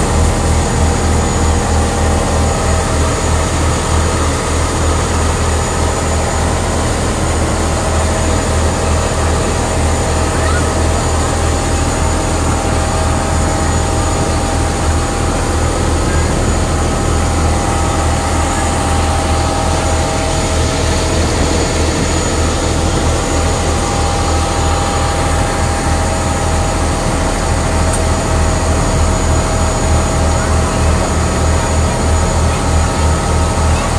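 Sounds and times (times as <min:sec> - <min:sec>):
ferry engine droning: 0:00.0 - 0:33.9.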